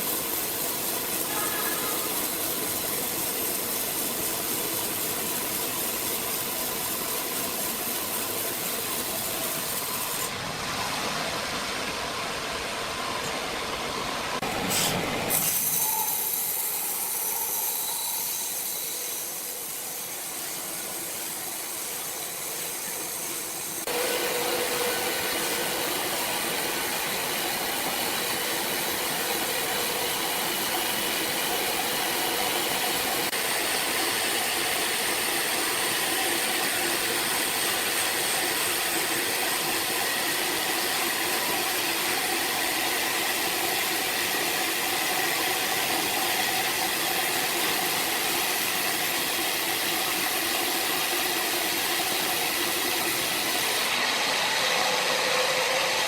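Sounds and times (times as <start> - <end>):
sawmill machinery with hiss: 0.0 - 56.0.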